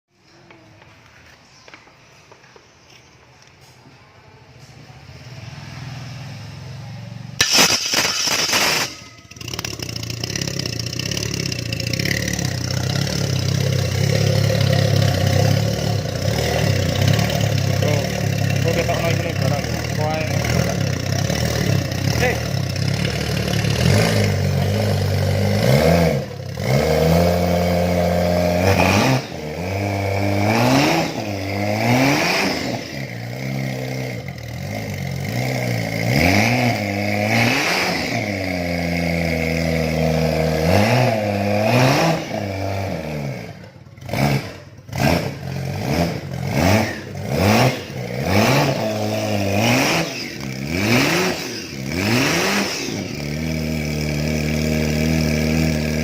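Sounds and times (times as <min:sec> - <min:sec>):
car engine revving: 0:05.0 - 0:56.0.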